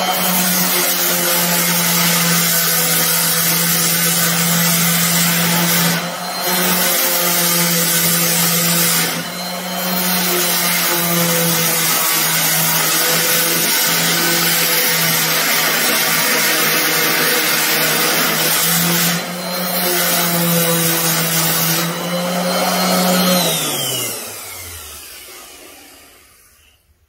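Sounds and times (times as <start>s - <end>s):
orbital sander on metal: 0.0s - 26.6s.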